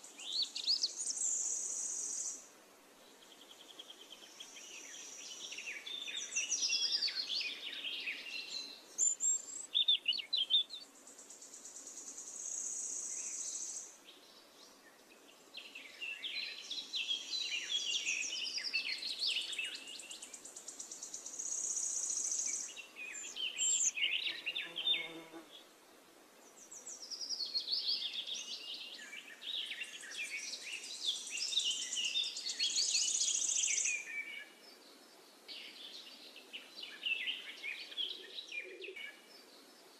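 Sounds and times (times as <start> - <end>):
birds chirping and trilling: 0.0 - 2.4, 3.1 - 25.7, 26.4 - 39.9.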